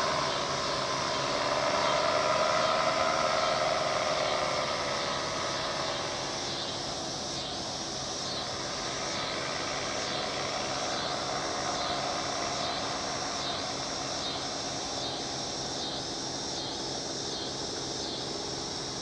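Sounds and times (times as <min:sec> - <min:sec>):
distant paramotor engine droning: 0:00.0 - 0:19.0.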